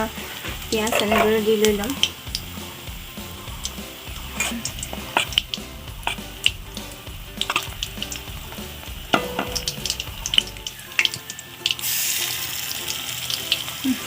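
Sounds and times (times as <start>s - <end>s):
food frying in hot oil: 0.0s - 14.0s
oil crackling and popping: 0.0s - 14.0s.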